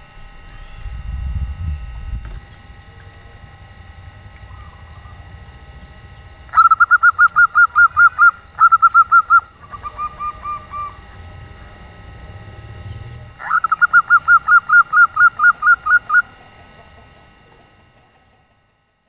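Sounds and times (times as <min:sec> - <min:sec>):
dove cooing call: 0:02.4 - 0:18.7.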